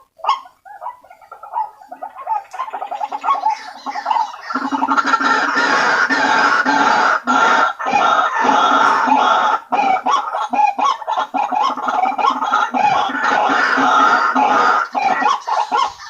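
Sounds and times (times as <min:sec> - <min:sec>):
waterhens calling: 0:00.0 - 0:16.0.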